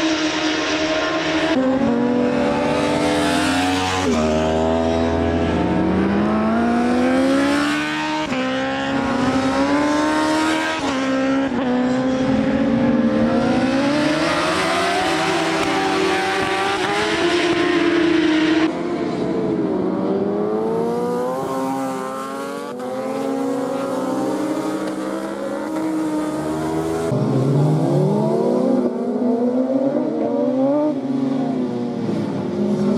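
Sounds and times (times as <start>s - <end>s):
racing motorbikes at high revs: 0.0s - 32.9s.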